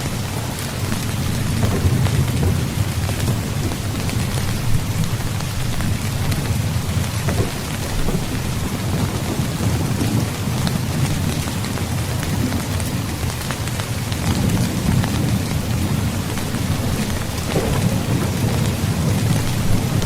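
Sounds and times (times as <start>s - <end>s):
heavy rain: 0.0s - 20.0s
thunder rumbling: 0.0s - 20.0s.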